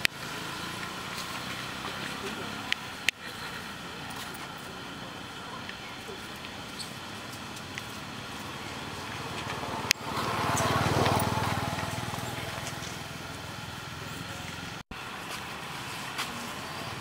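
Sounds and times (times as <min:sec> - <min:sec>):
small motor vehicle passing: 0:00.0 - 0:17.0
steady outdoor hiss: 0:00.0 - 0:17.0.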